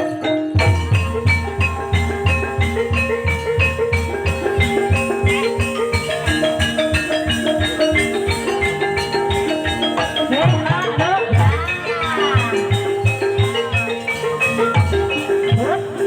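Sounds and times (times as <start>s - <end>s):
metallophone melody: 0.0s - 16.0s
steady drum beat: 0.6s - 16.0s.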